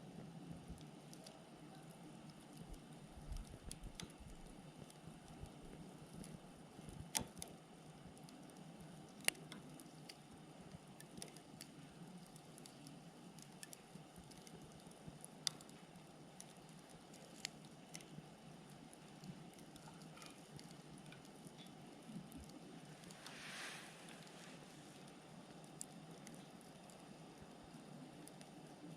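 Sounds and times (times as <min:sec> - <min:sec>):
campfire hiss: 0:00.0 - 0:28.9
fire crackling and popping: 0:00.0 - 0:28.9.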